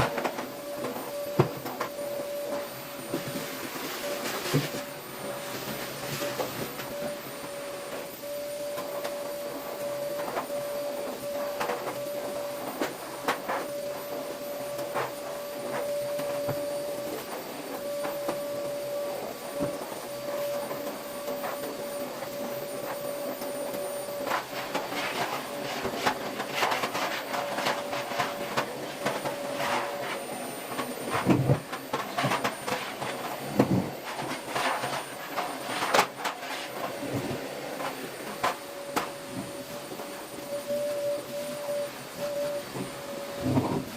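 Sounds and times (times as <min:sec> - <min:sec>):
small motor humming with whine: 0:00.0 - 0:43.9.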